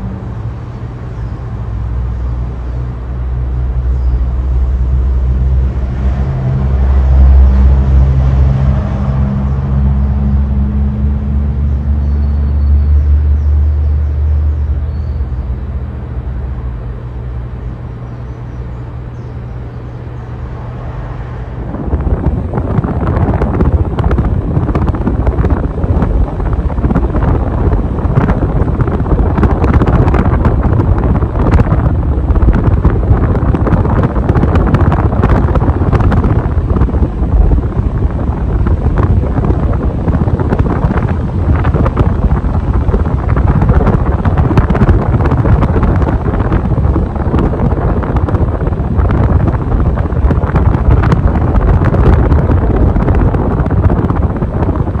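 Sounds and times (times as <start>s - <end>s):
ceiling fan wind noise: 0.0s - 55.0s.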